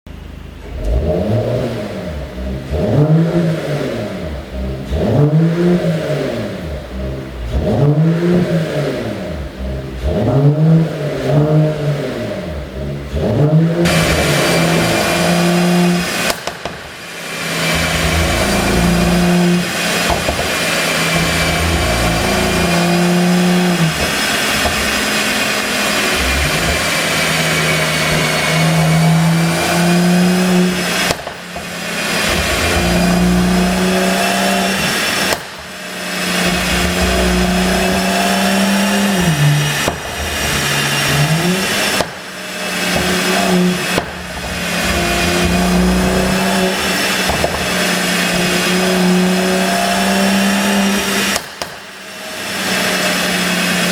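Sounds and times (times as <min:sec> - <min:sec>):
car engine and exhaust revving: 0:00.1 - 0:53.9.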